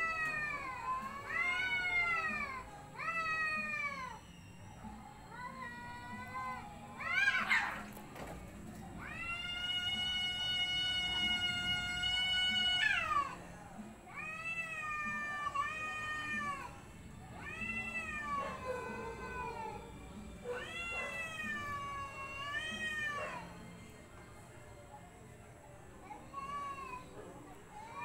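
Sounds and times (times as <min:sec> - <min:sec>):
cats yowling: 0:00.0 - 0:13.5, 0:14.1 - 0:23.6, 0:26.1 - 0:28.0.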